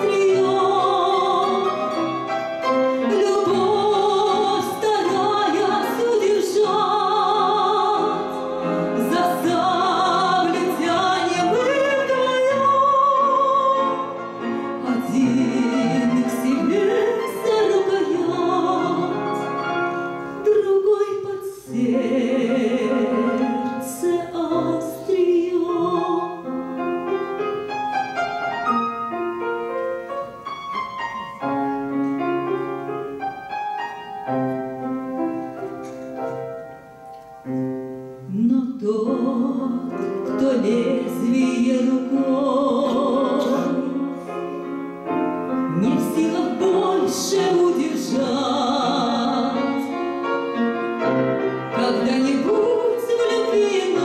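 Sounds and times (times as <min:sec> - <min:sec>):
woman singing classical song: 0:00.0 - 0:27.7, 0:37.4 - 0:54.0
grand piano: 0:00.0 - 0:54.0.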